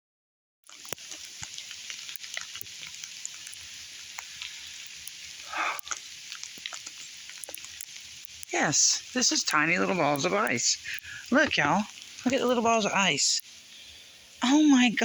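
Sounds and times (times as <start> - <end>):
ice pellets pattering: 0.7 - 15.0.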